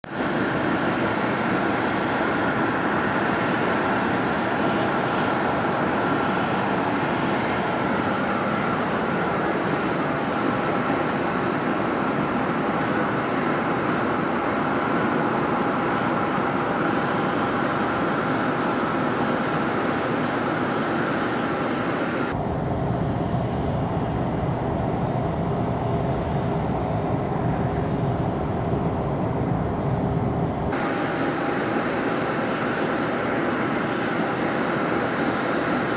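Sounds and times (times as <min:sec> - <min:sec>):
machine drone with whine: 0:00.0 - 0:35.9.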